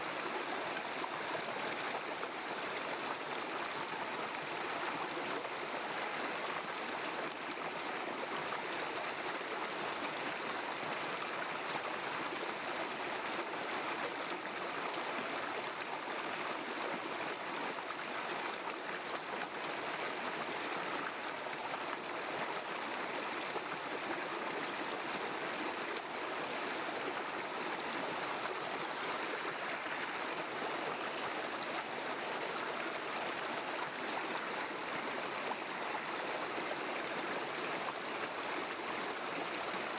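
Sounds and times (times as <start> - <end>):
stream flowing and babbling: 0.0 - 39.9.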